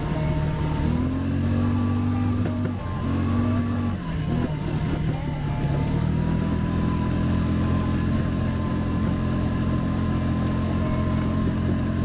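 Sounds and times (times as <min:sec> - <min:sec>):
atv engine humming: 0:00.0 - 0:12.0.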